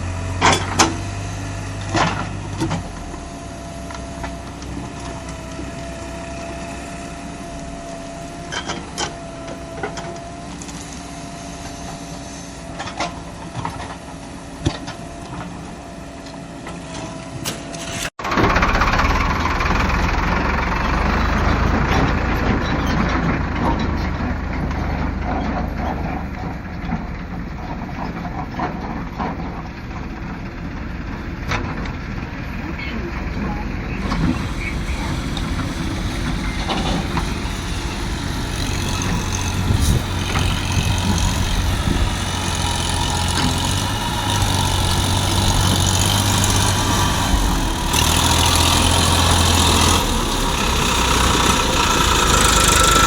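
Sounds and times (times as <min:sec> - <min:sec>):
diesel engine running: 0:00.0 - 0:12.1, 0:17.3 - 0:53.0.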